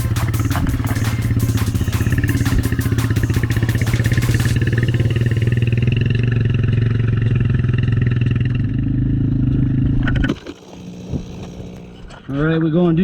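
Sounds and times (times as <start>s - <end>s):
dirt bike engine running: 0.0s - 12.5s.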